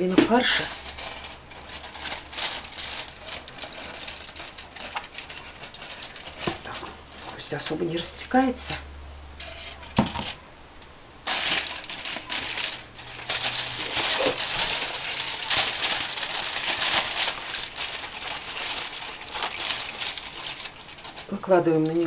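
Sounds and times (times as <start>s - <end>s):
aluminium foil crinkling: 0.0s - 8.6s, 9.4s - 10.4s, 11.2s - 22.0s.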